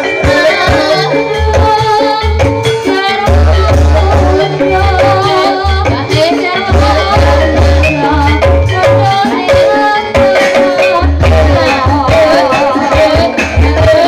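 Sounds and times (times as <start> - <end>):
gamelan ensemble music: 0.0 - 14.0.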